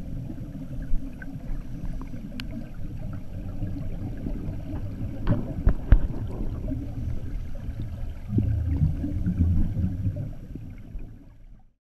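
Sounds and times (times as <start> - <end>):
bubbling of exhaled air: 0.0 - 11.7
muffled underwater rumble: 0.0 - 11.8.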